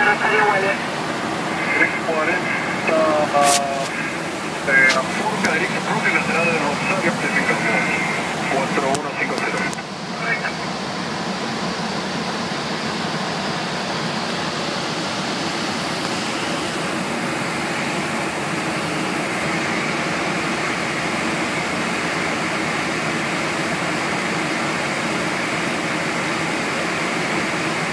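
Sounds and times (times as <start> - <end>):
airliner cabin engine and airflow noise: 0.0 - 27.9.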